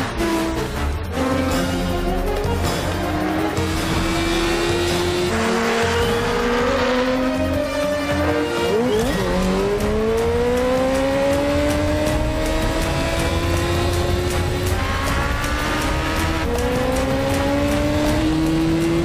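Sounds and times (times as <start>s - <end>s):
motorcycle accelerating: 2.6s - 19.0s
motorcycle engines revving: 2.8s - 19.0s.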